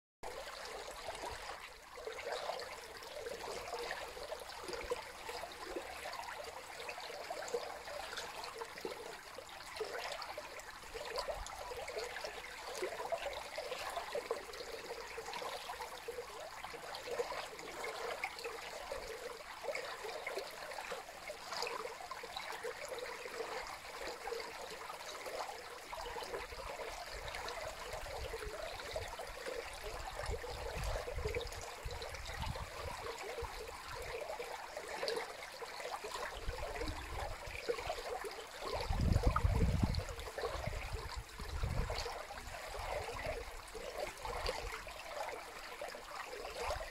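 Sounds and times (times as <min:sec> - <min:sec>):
water rushing over a weir: 0:00.3 - 0:46.9.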